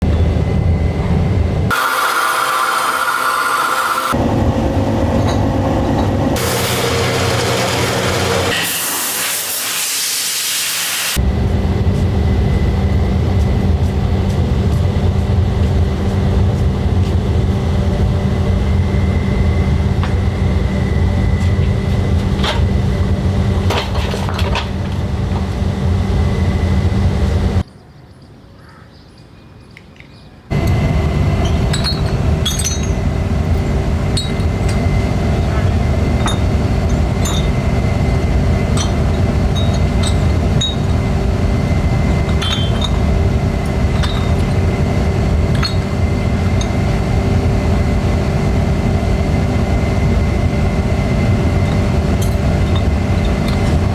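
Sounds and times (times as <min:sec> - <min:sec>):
low machine hum: 0:00.0 - 0:08.6, 0:11.2 - 0:27.6, 0:30.5 - 0:53.9
high whine: 0:00.0 - 0:09.8, 0:10.8 - 0:27.6, 0:30.5 - 0:53.9.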